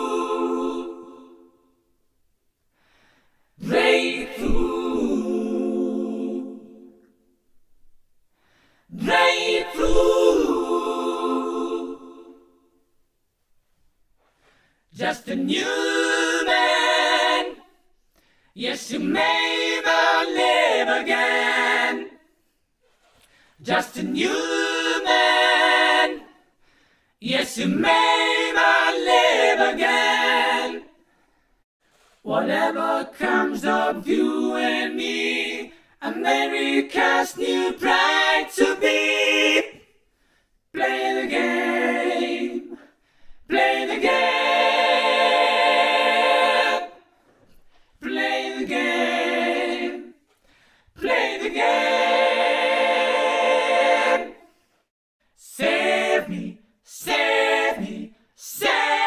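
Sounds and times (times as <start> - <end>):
voices singing a cappella: 0.0 - 1.9, 3.1 - 7.4, 8.4 - 12.9, 14.2 - 59.0.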